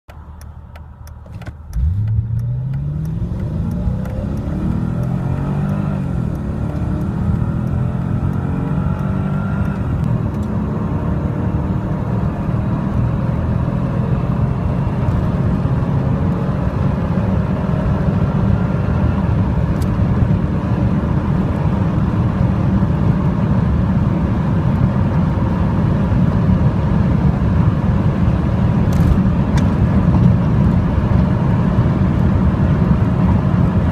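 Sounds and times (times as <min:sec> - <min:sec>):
wind and road noise: 0:00.1 - 0:33.9
car engine accelerating hard: 0:01.7 - 0:33.9.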